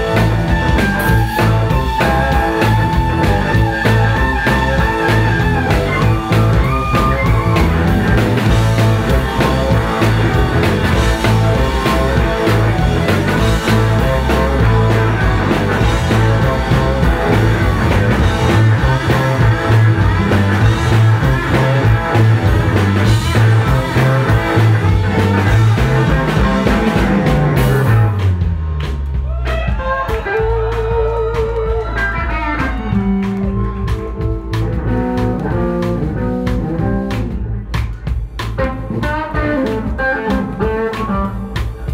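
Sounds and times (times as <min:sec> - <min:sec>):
electric blues band playing: 0:00.0 - 0:41.9
falling bass line: 0:00.0 - 0:41.9.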